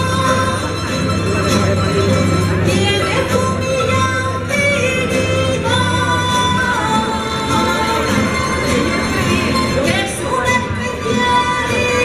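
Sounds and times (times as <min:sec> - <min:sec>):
person singing: 0:00.0 - 0:01.3, 0:02.6 - 0:12.0
guitars and lutes playing folk dance: 0:00.0 - 0:12.0.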